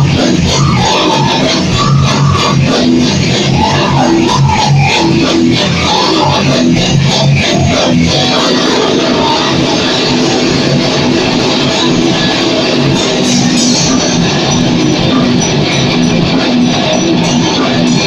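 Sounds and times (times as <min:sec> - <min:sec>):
distorted electric guitar: 0:00.0 - 0:18.0
drum kit playing: 0:00.0 - 0:18.0.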